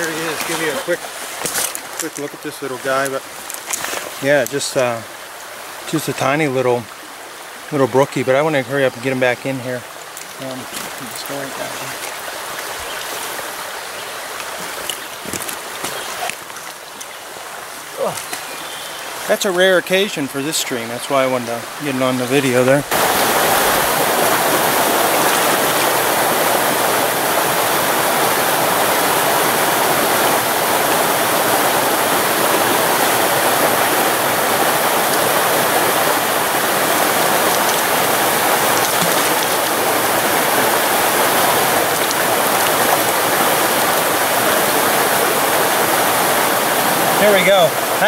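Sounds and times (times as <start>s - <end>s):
rushing stream water: 0.0s - 48.0s.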